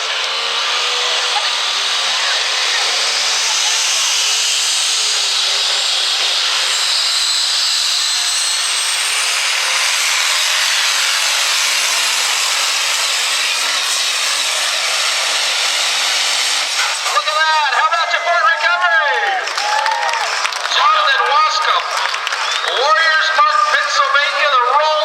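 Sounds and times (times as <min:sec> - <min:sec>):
diesel truck engine blaring: 0:00.0 - 0:25.0
high engine whine: 0:00.0 - 0:25.0.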